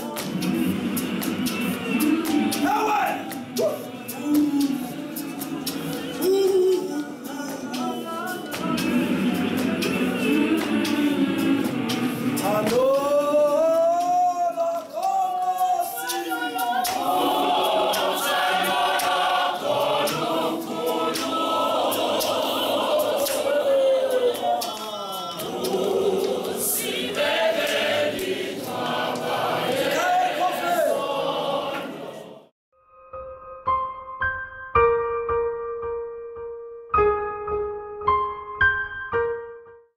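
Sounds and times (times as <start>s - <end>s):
choir singing unaccompanied: 0.0s - 32.5s.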